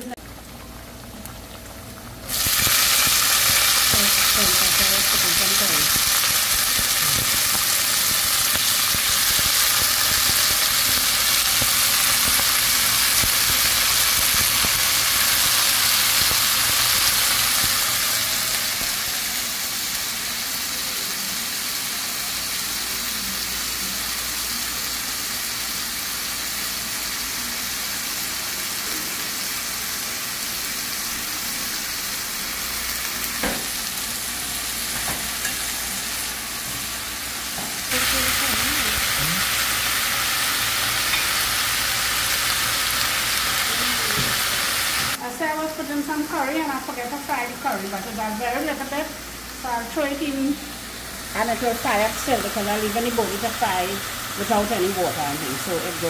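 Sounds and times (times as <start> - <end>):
beans frying in a pot: 0.0 - 56.0.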